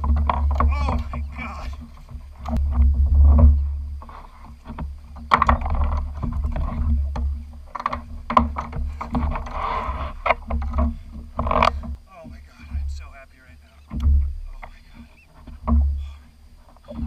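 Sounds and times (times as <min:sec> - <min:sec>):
knocks bumps and rustling: 0:00.0 - 0:17.0
steady low rumble: 0:00.0 - 0:17.0.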